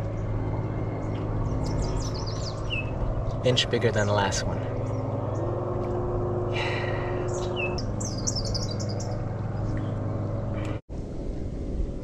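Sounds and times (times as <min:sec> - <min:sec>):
bird singing: 0:00.0 - 0:10.8
steady low hum: 0:00.0 - 0:12.0.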